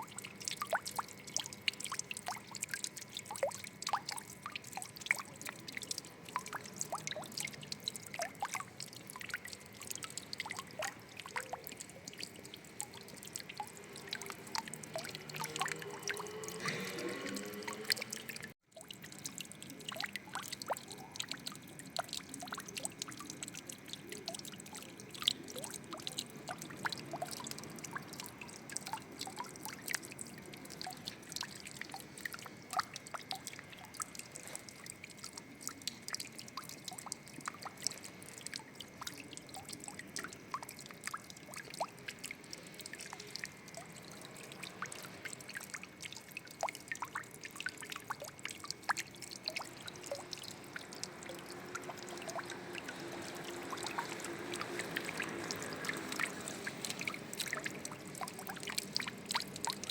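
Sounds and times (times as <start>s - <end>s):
water drips and splashes: 0.0s - 59.9s
water trickling and pouring: 0.0s - 59.9s.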